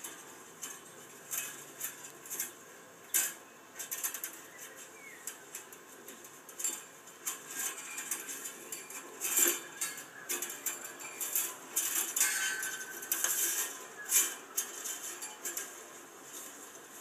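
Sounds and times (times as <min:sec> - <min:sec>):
fencing wire clinking on metal post: 0:00.0 - 0:17.0.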